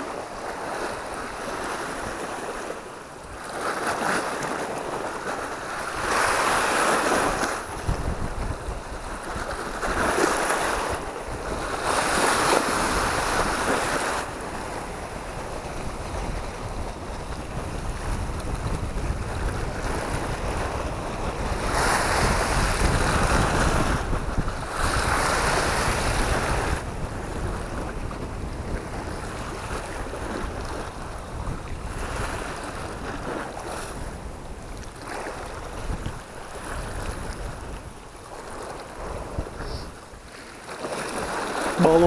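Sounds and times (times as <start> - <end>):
waves washing against rocks: 0.0 - 42.0
wind buffeting microphone: 3.3 - 40.4.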